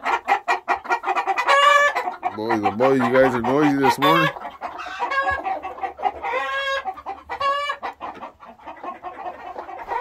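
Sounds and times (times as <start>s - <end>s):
chicken squawking: 0.0s - 10.0s
chickens clucking: 0.0s - 10.0s.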